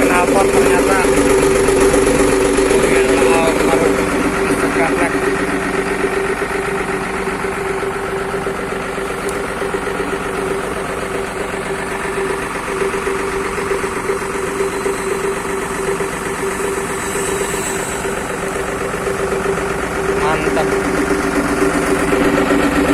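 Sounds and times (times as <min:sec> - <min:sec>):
bus engine idling: 0:00.0 - 0:22.9.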